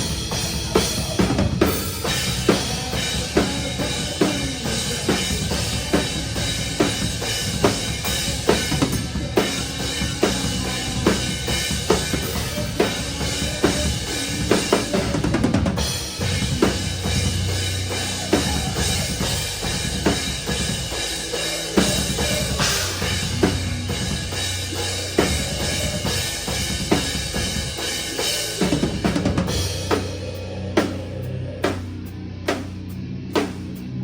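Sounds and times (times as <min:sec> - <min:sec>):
live metal band playing: 0:00.0 - 0:34.0.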